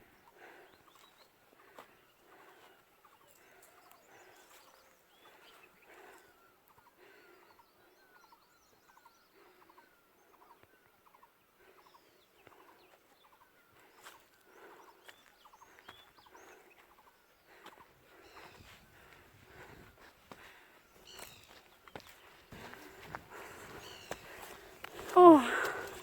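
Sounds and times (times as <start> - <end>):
distant bird calls: 0.0 - 26.0.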